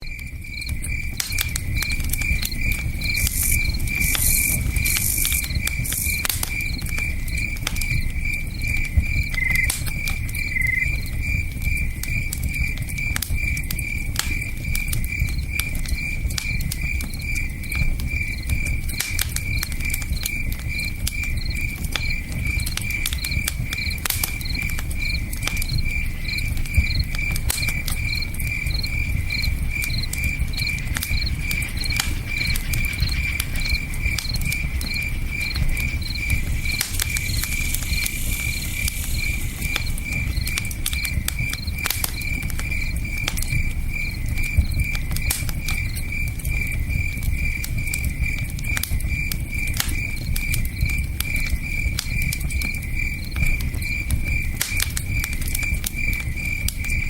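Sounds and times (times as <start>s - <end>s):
campfire crackling: 0.0s - 57.0s
crickets chirping: 0.0s - 57.0s.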